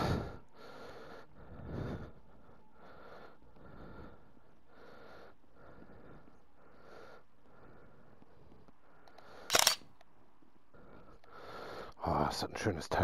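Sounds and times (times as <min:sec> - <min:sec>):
person breathing softly: 0:00.0 - 0:09.8, 0:10.6 - 0:12.0.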